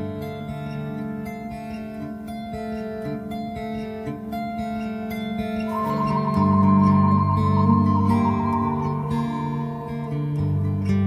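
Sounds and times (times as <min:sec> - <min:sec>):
slow instrumental music: 0:00.2 - 0:11.0.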